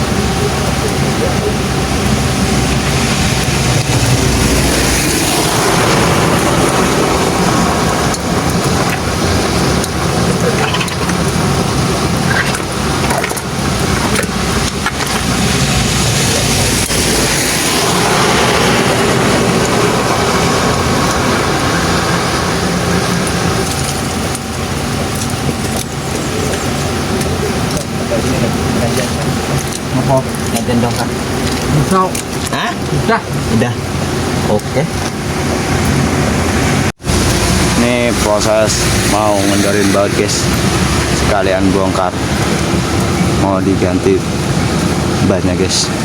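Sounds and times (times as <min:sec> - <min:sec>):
heavy truck engine running: 0:00.0 - 0:46.0.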